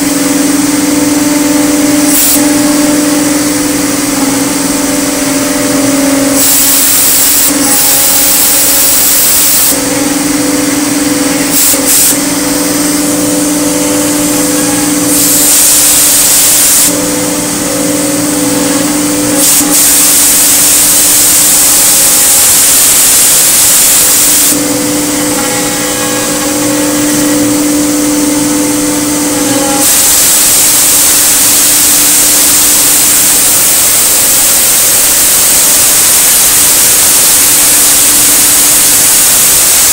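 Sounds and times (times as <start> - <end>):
loud hiss: 2.0 - 4.6, 5.8 - 9.9, 10.5 - 13.2, 14.0 - 17.6, 19.2 - 27.6, 29.2 - 39.9.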